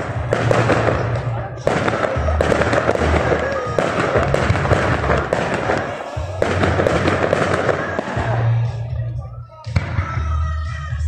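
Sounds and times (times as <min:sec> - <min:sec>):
fireworks bursting and crackling: 0:00.0 - 0:08.9
music playing: 0:00.0 - 0:11.0.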